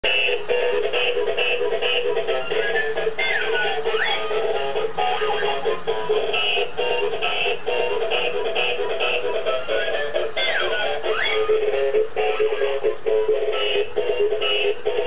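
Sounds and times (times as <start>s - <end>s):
toy electronic tune: 0.0s - 15.0s.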